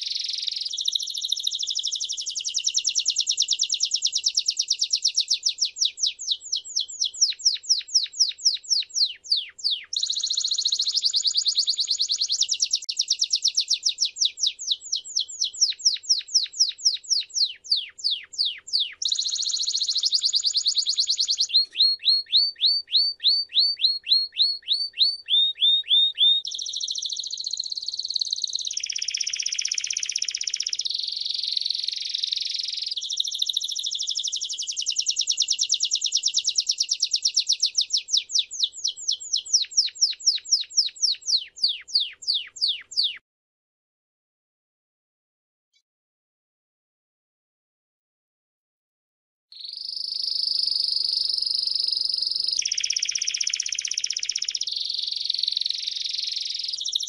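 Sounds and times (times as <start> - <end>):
canary singing trills: 0.0 - 43.2, 49.6 - 57.0.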